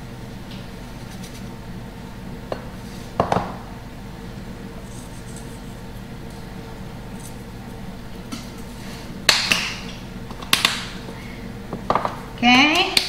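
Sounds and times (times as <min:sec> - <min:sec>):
steady room hum: 0:00.0 - 0:13.0.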